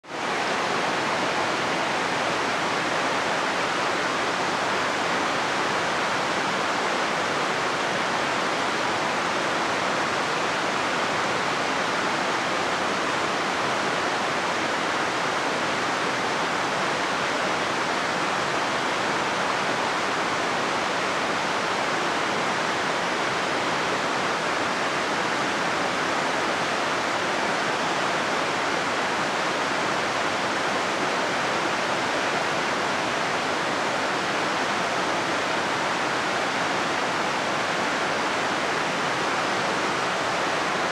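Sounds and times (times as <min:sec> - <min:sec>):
fast-flowing river rushing: 0:00.0 - 0:40.9.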